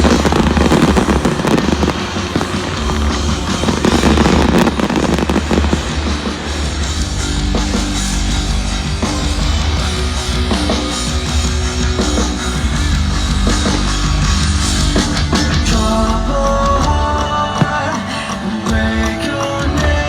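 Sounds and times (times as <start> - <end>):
loud rock music with guitars: 0.0 - 20.0.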